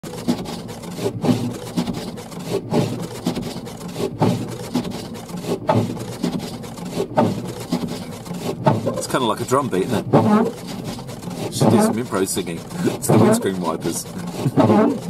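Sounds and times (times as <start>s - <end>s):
windscreen wipers swishing: 0.0s - 15.0s.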